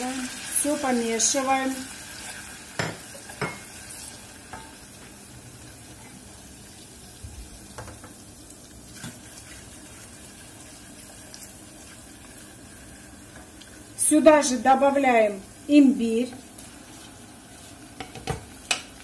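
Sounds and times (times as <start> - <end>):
garlic sizzling in butter: 0.0 - 19.0.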